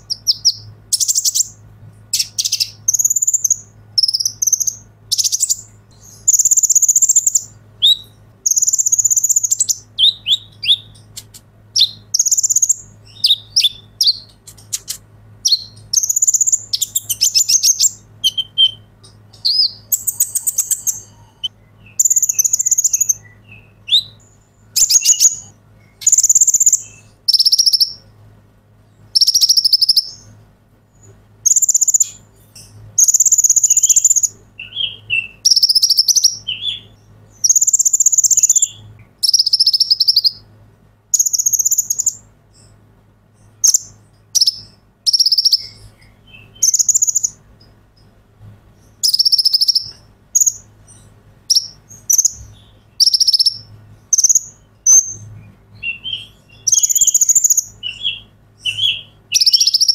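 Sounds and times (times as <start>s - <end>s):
bird chirping and trilling: 0.0s - 28.1s, 29.0s - 30.4s, 31.0s - 40.5s, 41.1s - 48.1s, 48.8s - 59.9s.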